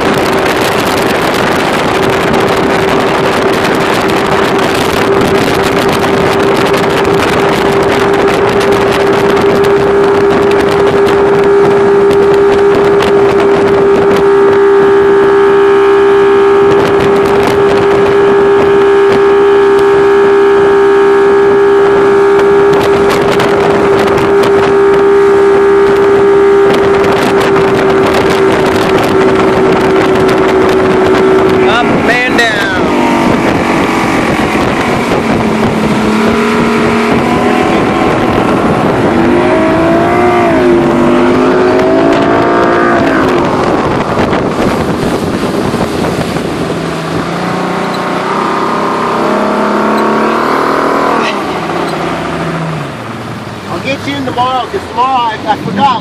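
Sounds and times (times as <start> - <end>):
outboard motor running: 0.0 - 56.0
rush of wind and spray: 0.0 - 56.0.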